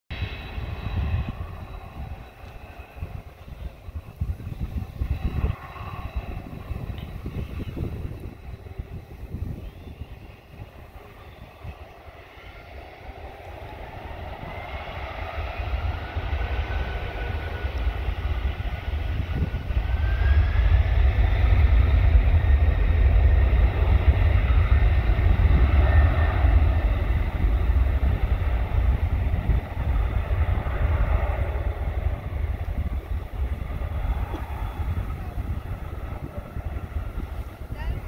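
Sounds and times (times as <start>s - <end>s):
jet engines spooling up: 0.1s - 38.0s.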